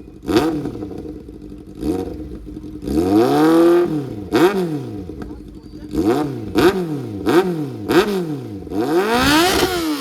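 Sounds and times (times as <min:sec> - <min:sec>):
motorcycle engine throttle blips: 0:00.0 - 0:10.0.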